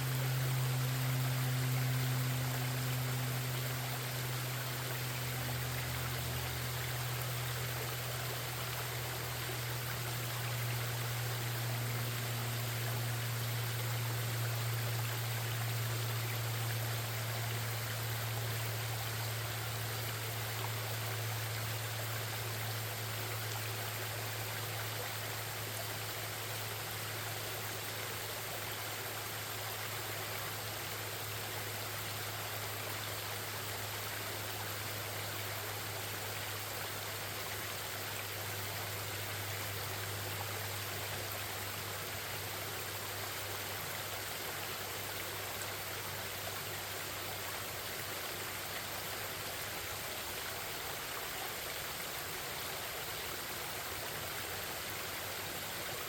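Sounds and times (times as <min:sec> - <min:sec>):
steady low hum: 0:00.0 - 0:56.0
stream babbling: 0:00.0 - 0:56.0.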